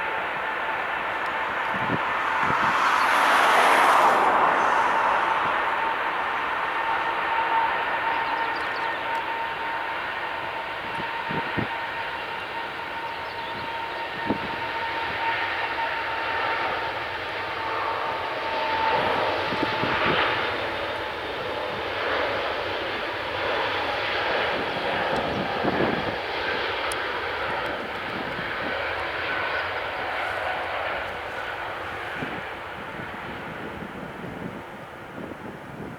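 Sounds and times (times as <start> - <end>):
high engine whine: 0.0 - 13.3, 15.7 - 35.9
jet engines rushing: 0.0 - 35.9.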